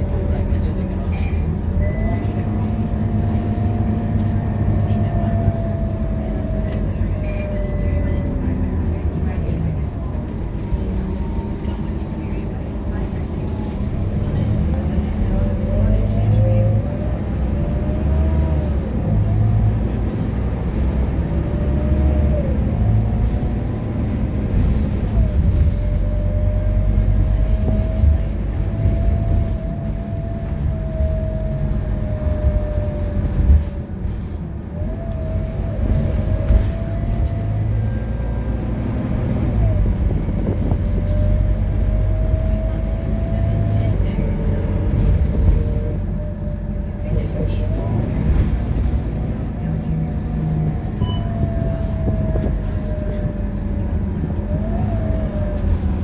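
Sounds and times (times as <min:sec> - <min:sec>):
bus diesel engine rumbling: 0:00.0 - 0:56.0
drivetrain whine: 0:00.0 - 0:56.0.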